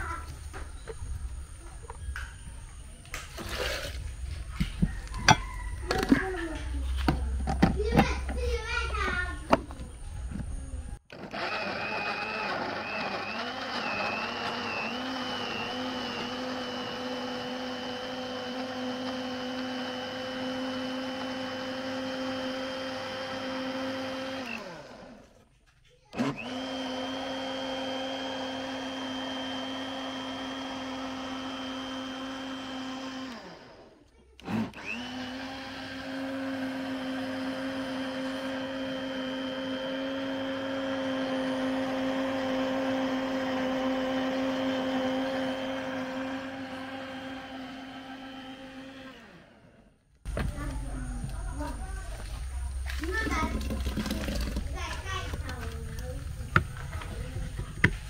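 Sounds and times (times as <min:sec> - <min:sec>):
blender motor running: 0:03.4 - 0:06.4, 0:09.0 - 0:25.4, 0:26.2 - 0:50.4, 0:52.8 - 0:58.0.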